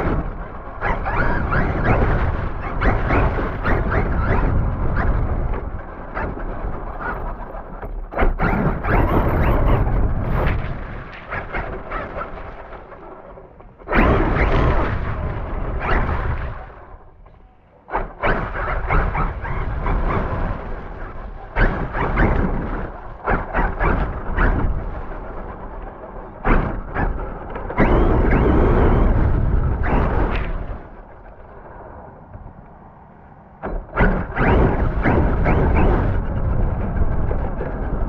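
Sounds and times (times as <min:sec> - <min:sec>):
radio-controlled car driving: 0:00.0 - 0:38.0.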